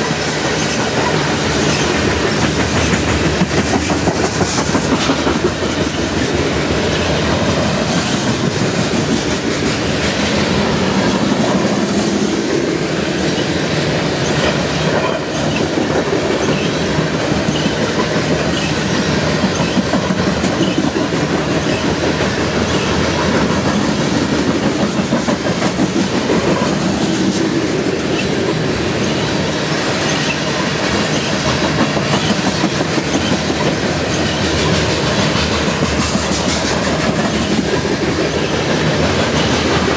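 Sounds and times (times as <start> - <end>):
freight train rumbling past: 0.0 - 39.9
wheels clacking on rails: 0.0 - 39.9.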